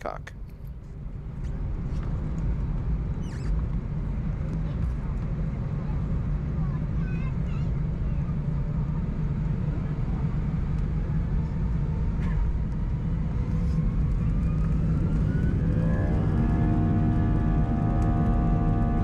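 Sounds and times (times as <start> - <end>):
jet engine cabin rumble: 0.0 - 19.0
jet engine whine: 0.0 - 19.0.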